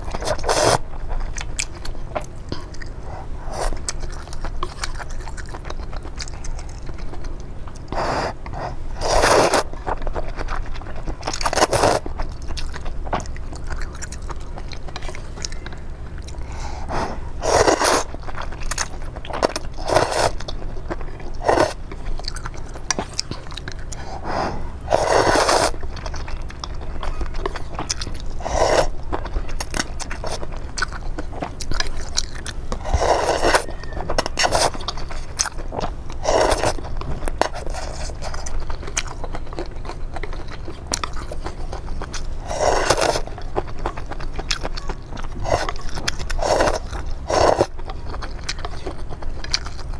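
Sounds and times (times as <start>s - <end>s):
chewing clicks: 0.0s - 24.2s, 24.9s - 49.9s.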